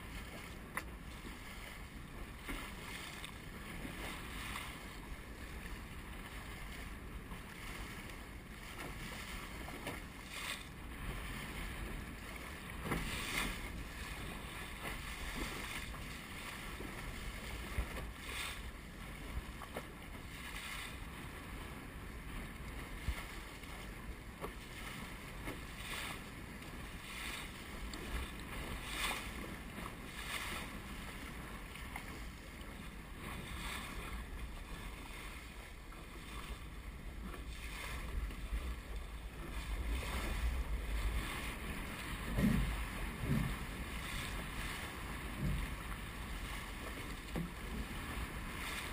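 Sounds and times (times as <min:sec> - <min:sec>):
bow slapping through waves: 0:00.0 - 0:21.4, 0:22.2 - 0:48.9
water rushing along hull: 0:00.0 - 0:48.9.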